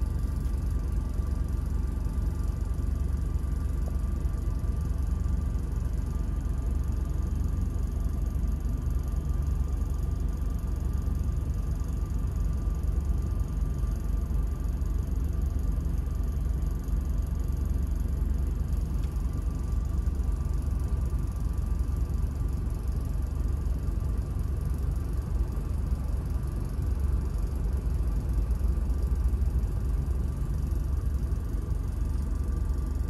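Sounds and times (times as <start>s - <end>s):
vehicle idling rumble: 0.0s - 33.0s.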